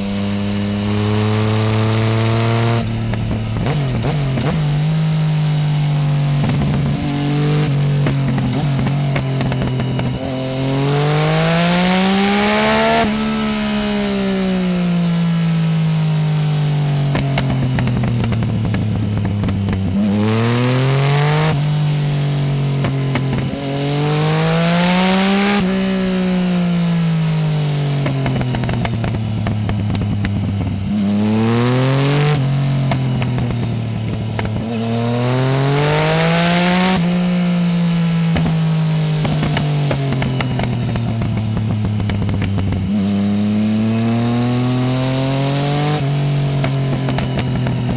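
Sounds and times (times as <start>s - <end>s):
motorcycle engine revving: 0.0s - 47.9s
wind noise: 0.0s - 47.9s.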